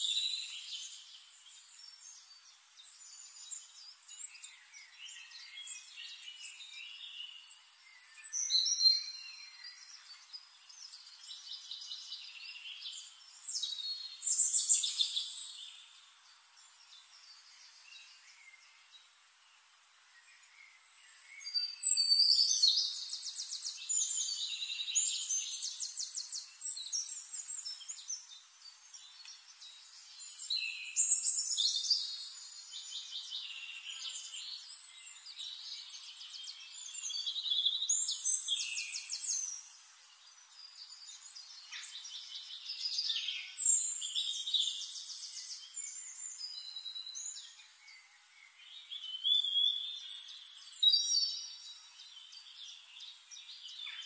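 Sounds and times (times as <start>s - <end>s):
quieter bird calls: 0.0s - 54.0s.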